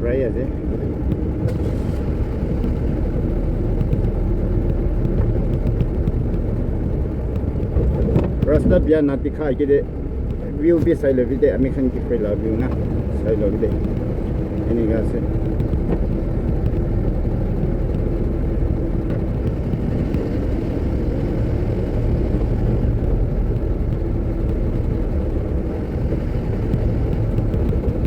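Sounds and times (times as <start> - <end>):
vehicle engine and tyres rumbling: 0.0 - 28.0.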